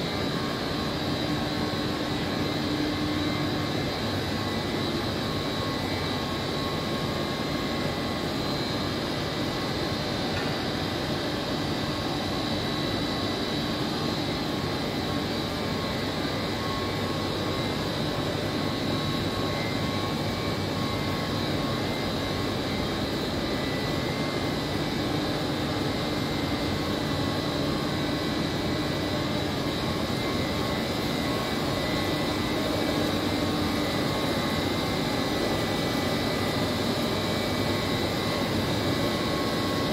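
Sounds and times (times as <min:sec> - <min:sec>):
chiller machinery whining rush: 0:00.0 - 0:39.9.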